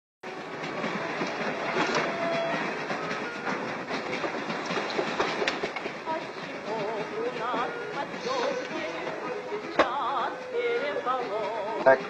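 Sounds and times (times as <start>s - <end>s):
train rumble and wheel clatter: 0.2s - 12.0s.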